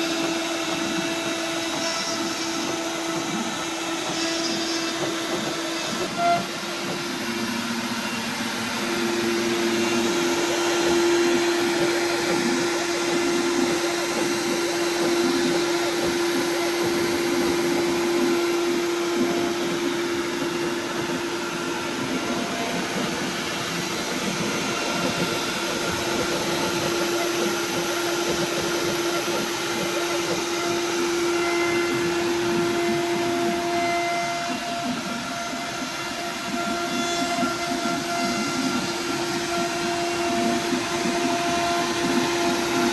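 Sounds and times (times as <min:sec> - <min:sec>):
router spindle humming: 0:00.0 - 0:42.9.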